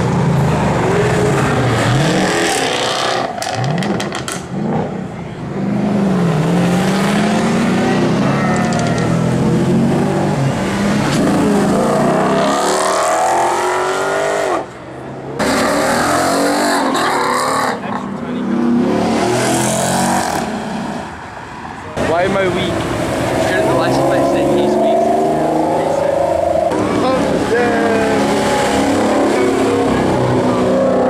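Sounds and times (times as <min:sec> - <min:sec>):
car engines revving and accelerating: 0:00.0 - 0:31.0.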